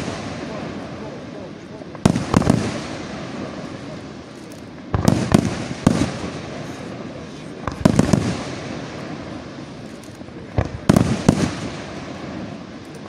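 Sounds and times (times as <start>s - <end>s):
firework shells bursting: 0.0s - 13.0s
hissing rumble of fireworks: 0.0s - 13.0s.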